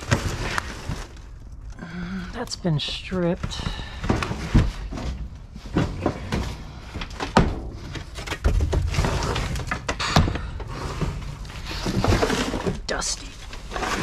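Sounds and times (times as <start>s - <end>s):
rustling and scraping: 0.0s - 1.7s, 2.8s - 14.0s.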